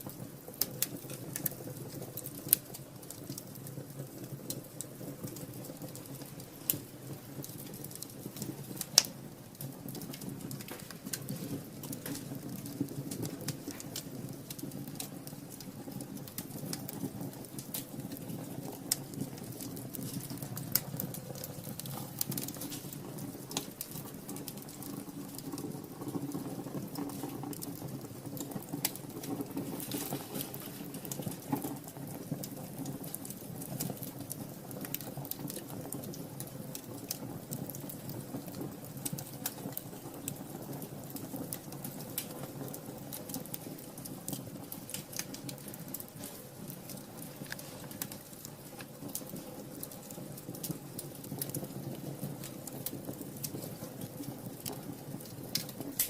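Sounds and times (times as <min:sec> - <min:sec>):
low steady fire rumble: 0:00.0 - 0:56.0
wood fire crackling: 0:00.0 - 0:56.0.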